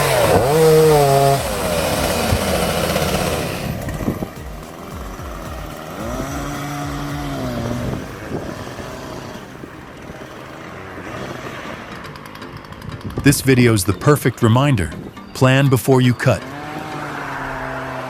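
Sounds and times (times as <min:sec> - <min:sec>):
outdoor background noise: 0:00.0 - 0:18.0
small engine revving: 0:00.0 - 0:18.0.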